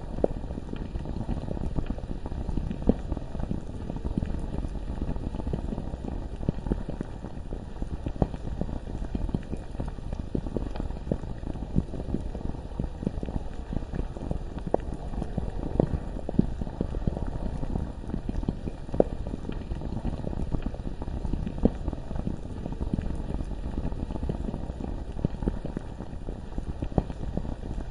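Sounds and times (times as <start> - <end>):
low lava rumble: 0.0 - 27.9
thick bubbles popping: 0.0 - 27.9.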